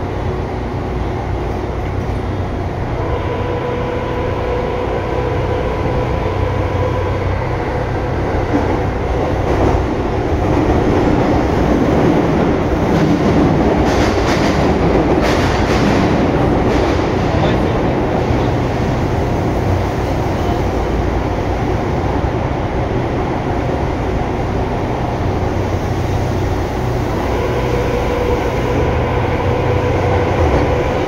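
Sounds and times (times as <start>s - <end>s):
train rumble: 0.0s - 31.0s.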